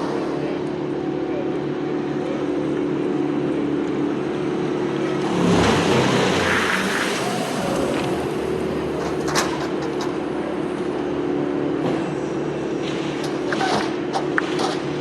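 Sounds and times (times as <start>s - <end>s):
heavy equipment engine humming: 0.0s - 15.0s.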